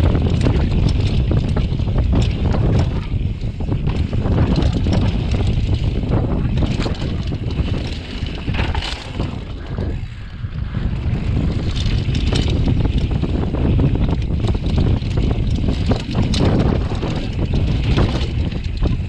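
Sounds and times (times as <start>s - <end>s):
bike rattling and knocking: 0.0s - 19.0s
bike tyres on loose dirt: 0.0s - 19.0s
wind on microphone: 0.0s - 19.0s.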